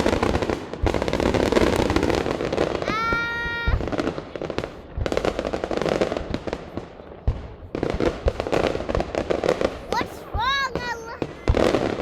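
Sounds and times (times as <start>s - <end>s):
deep firework booms: 0.0s - 12.0s
firework crackling: 0.0s - 12.0s.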